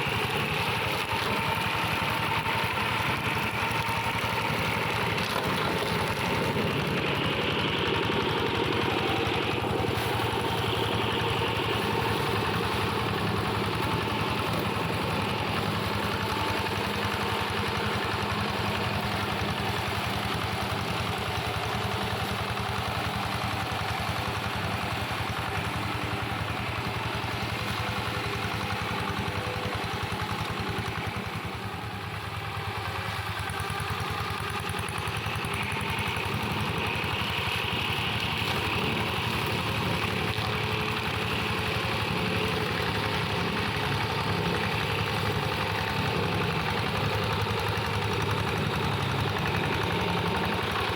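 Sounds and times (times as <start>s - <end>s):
hand tractor engine running: 0.0s - 50.9s.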